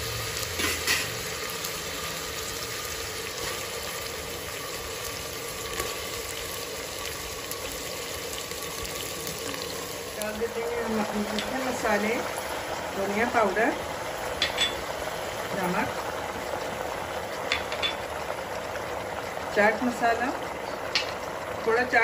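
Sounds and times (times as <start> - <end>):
oil sizzling in pressure cooker: 0.0 - 22.0.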